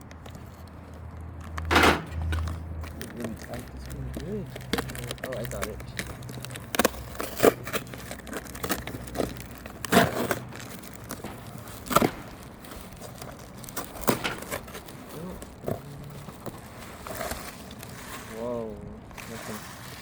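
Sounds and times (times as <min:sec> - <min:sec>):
cardboard and plastic crinkling: 0:00.0 - 0:20.0
sharp crackles and knocks: 0:00.0 - 0:20.0.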